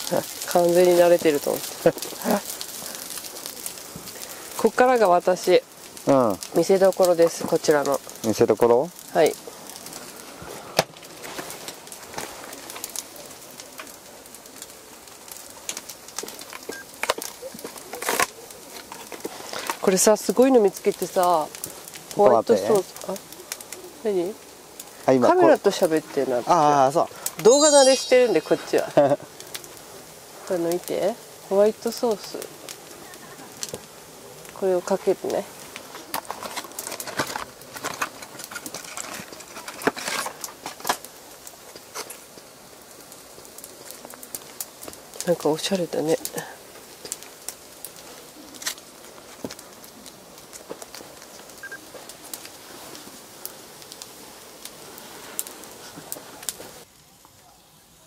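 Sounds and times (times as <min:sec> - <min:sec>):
rustle: 0:00.0 - 0:58.0.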